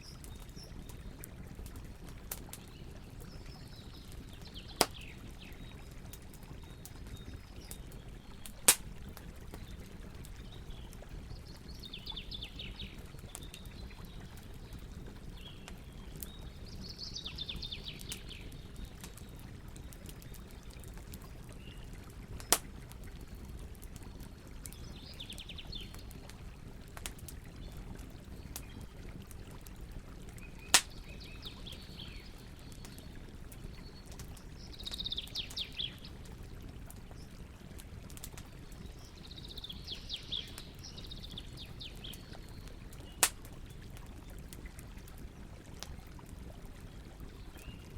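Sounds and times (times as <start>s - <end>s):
campfire crackling: 0.0s - 47.9s.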